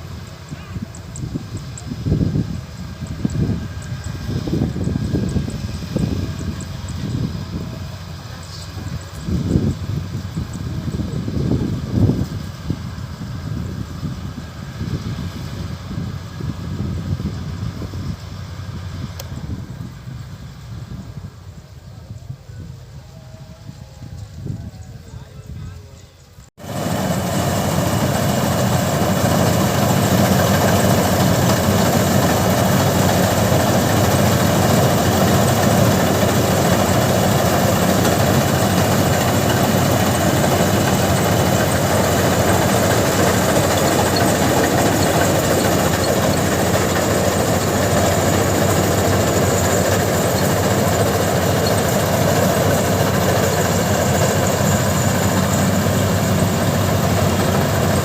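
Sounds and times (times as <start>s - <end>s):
combine harvester engine running: 0.0s - 21.3s, 26.6s - 58.0s.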